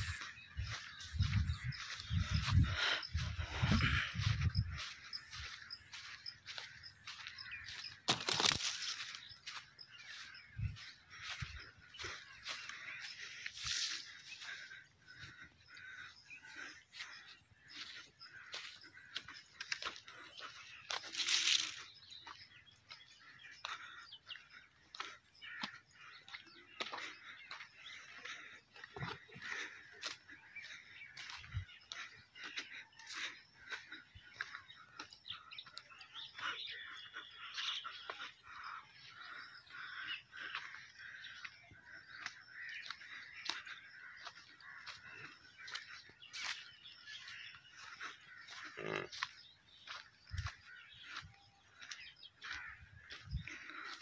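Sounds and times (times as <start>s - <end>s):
faint birds chirping: 0.0s - 54.0s.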